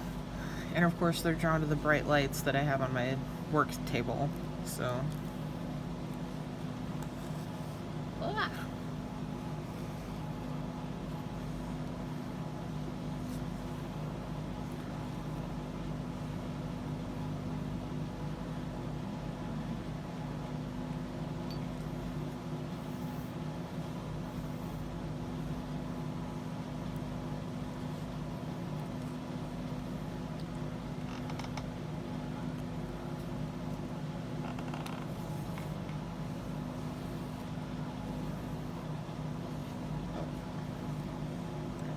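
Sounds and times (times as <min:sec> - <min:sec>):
fan motor hum: 0:00.0 - 0:41.9.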